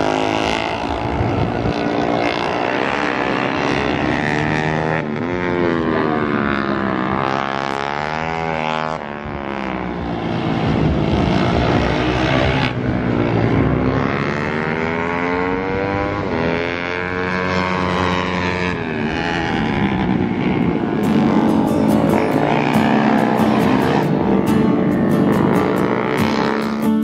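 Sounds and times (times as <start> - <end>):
racing motorcycle engine revving: 0.0 - 27.0.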